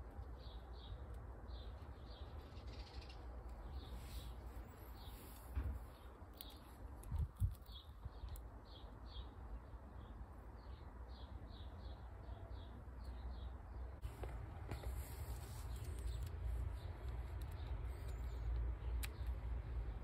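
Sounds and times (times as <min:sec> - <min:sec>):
small bird chirping: 0:00.2 - 0:14.1, 0:14.7 - 0:20.0.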